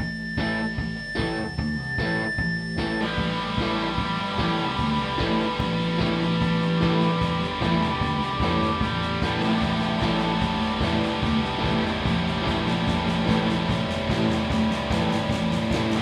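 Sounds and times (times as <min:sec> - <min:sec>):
live rock band playing: 0:00.4 - 0:16.0.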